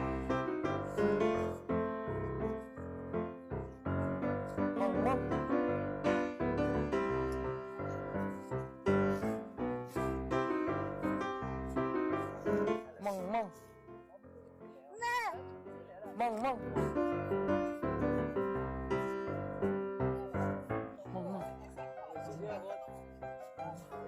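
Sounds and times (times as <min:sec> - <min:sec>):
bouncy piano tune: 0:00.0 - 0:24.0.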